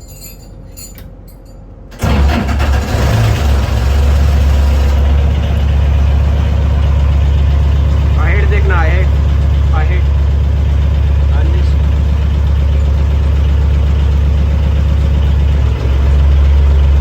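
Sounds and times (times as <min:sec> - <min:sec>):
diesel engine starting and running: 0:01.7 - 0:17.0.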